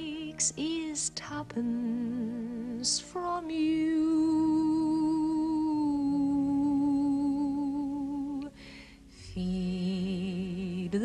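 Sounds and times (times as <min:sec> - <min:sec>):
gentle accompaniment: 0:00.0 - 0:11.0
woman singing: 0:00.0 - 0:11.0.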